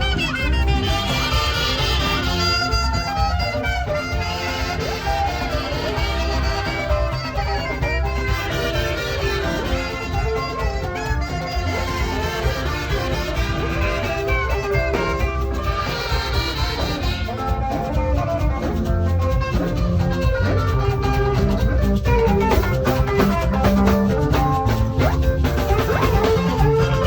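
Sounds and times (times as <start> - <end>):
drums: 0.0 - 27.0
saxophone melody: 0.0 - 27.0
upbeat band music: 0.0 - 27.0.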